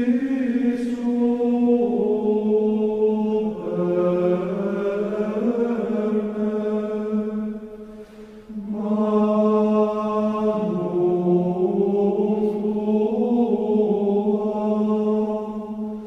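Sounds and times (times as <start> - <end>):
slow sung chant: 0.0 - 16.0.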